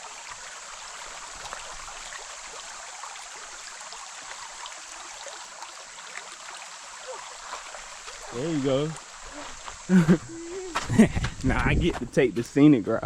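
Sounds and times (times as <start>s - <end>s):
mountain stream rushing: 0.0s - 12.6s
water splashes and trickles: 0.0s - 13.0s.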